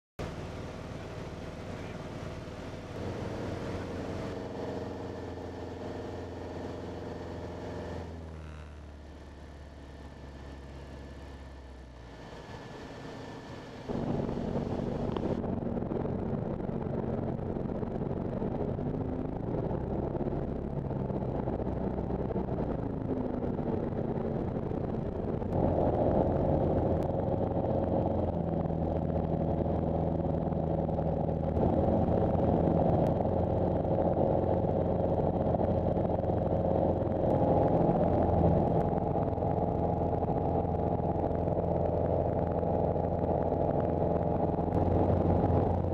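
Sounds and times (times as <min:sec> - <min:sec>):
light aircraft engine droning: 0:00.2 - 0:45.9.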